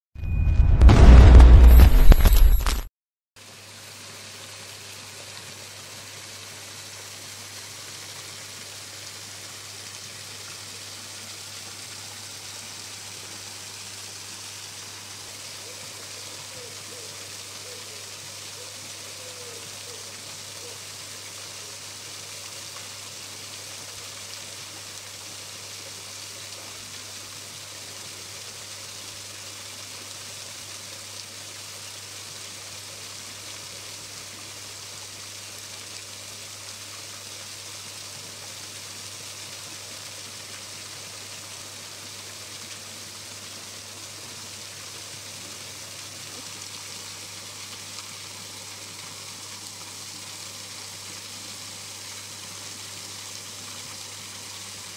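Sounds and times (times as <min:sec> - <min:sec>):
waterfall splashing into a pool: 0:00.8 - 0:54.9.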